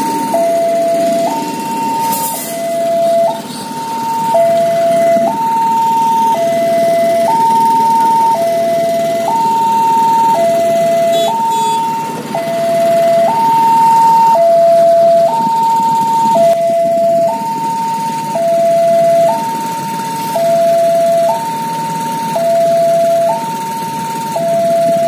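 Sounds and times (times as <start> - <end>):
two-tone crossing alarm: 0.0 - 25.0.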